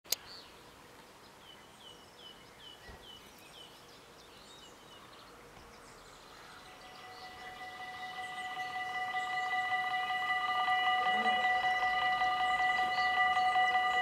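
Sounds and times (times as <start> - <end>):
faint bird song: 0.1 - 14.0
low background hiss: 0.1 - 14.0.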